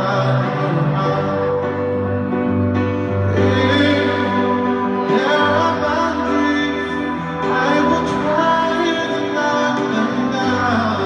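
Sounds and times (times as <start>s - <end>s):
person singing long notes: 0.0s - 11.0s
slow instrumental accompaniment: 0.0s - 11.0s.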